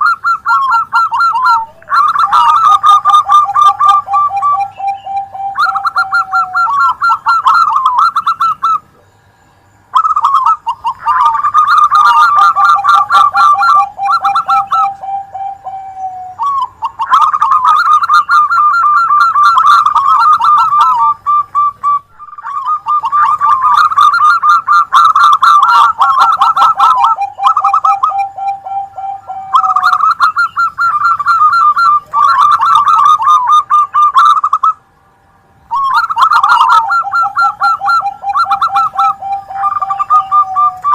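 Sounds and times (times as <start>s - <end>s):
doves cooing: 0.0s - 34.9s, 35.7s - 40.9s.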